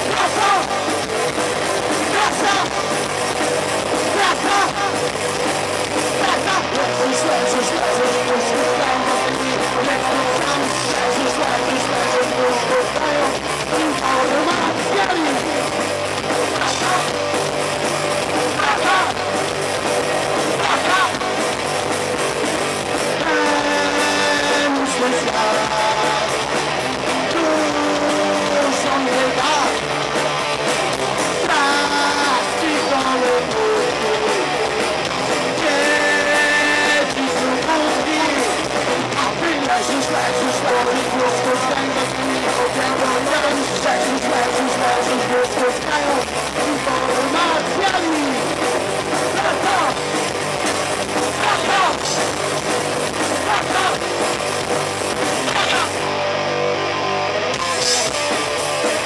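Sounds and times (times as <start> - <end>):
person singing: 0.0 - 5.2, 6.0 - 17.4, 18.4 - 19.4, 20.4 - 21.5, 23.0 - 30.1, 31.2 - 50.1, 51.3 - 52.4, 53.2 - 54.2, 55.4 - 56.1
bass guitar: 0.0 - 59.0
electric guitar: 0.0 - 59.0.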